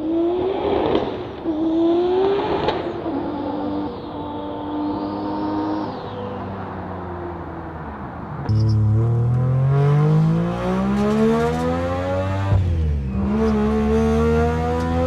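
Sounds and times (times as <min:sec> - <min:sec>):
rotary engine accelerating: 0:00.0 - 0:07.6, 0:08.4 - 0:15.0.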